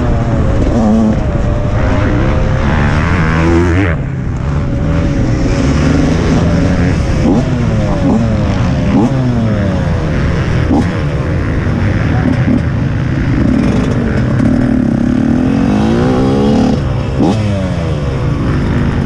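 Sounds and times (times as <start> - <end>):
motocross engine revving: 0.0 - 19.0.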